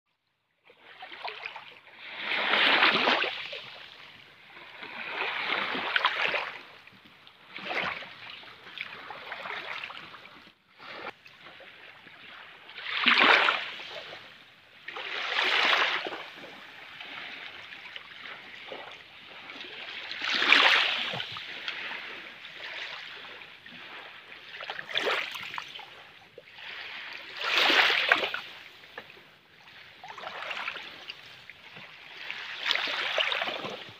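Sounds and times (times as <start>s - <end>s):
small waves washing on sand beach: 0.7s - 33.9s.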